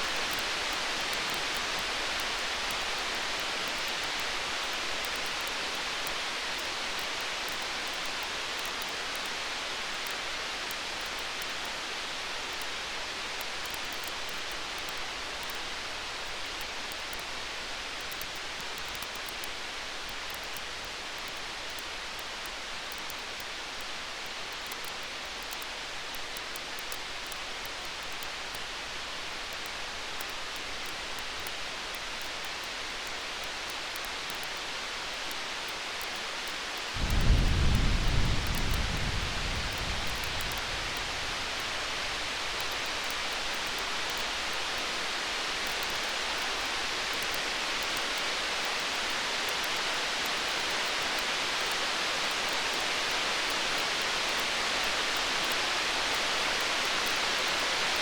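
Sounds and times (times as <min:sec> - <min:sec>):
faint campfire crackles: 0:00.0 - 0:58.0
rain-like hiss: 0:00.0 - 0:58.0.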